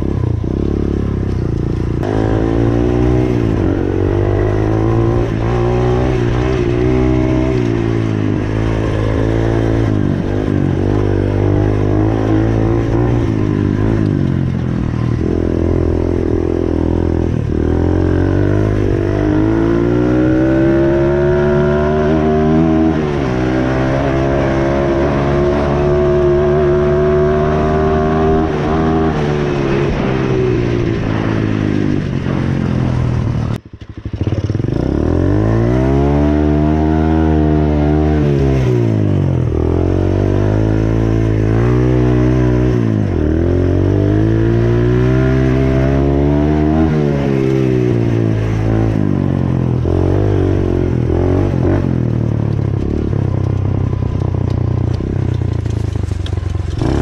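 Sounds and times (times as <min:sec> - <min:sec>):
dirt bike engine revving: 0:00.0 - 0:53.2, 0:53.8 - 0:57.0.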